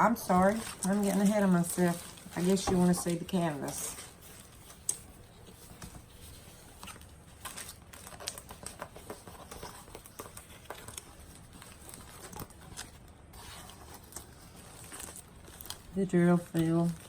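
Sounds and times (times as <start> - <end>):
canvas rustling and crinkling: 0.0 - 17.0.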